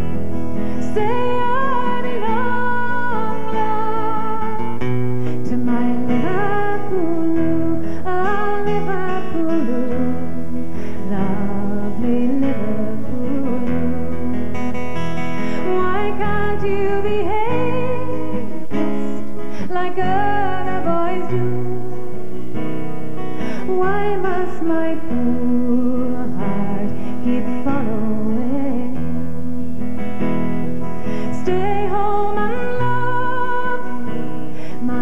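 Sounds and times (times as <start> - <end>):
acoustic guitar: 0.0 - 35.0
woman singing folk ballad: 0.0 - 35.0.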